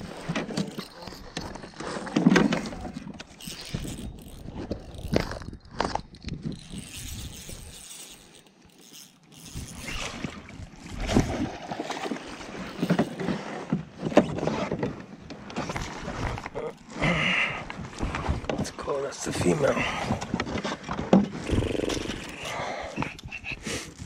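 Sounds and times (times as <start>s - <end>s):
knocks and rattles of fishing gear: 0.0s - 24.0s.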